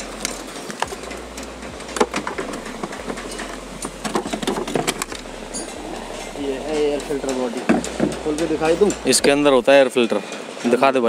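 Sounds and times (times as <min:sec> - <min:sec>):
steady low hum: 0:00.0 - 0:10.0
hand tools clicking and knocking: 0:00.0 - 0:10.8.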